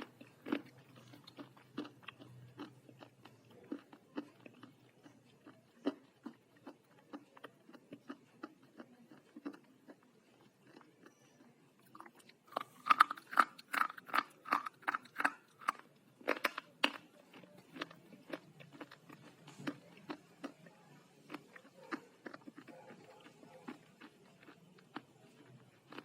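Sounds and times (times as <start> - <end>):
slate being chewed crunching: 0.0 - 26.0.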